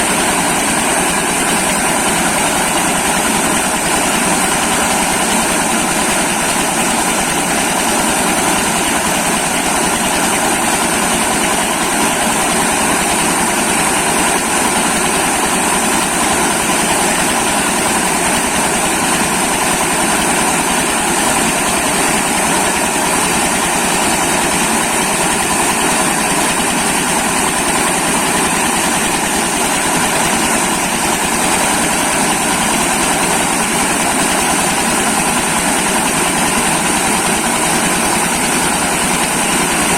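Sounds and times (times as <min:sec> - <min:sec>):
corn milling machine running: 0:00.0 - 0:39.9.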